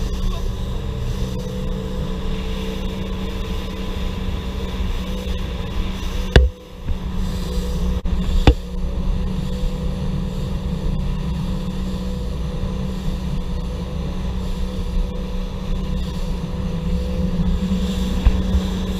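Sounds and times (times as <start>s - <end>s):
boat engine running: 0.0s - 18.9s
wind noise on microphone: 0.0s - 18.9s.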